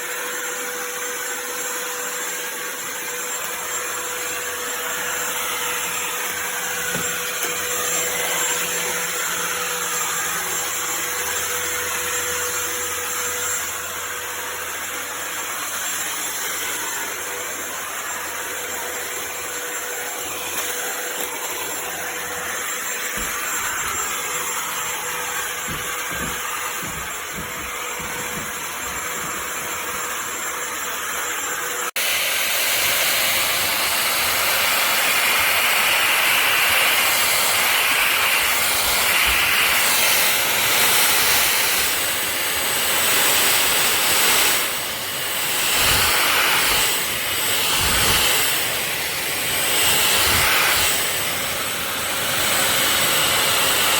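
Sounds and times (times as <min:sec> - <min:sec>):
stick vacuum running: 0:00.0 - 0:53.9.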